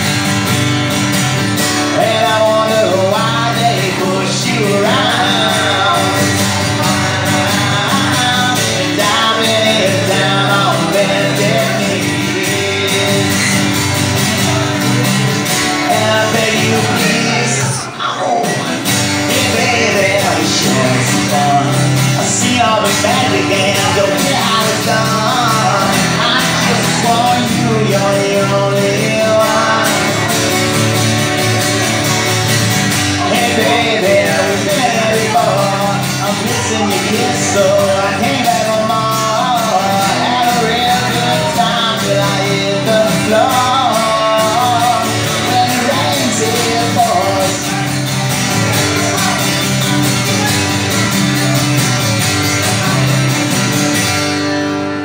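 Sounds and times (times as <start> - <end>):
acoustic guitars strumming: 0.0 - 55.0
person singing: 1.6 - 53.8.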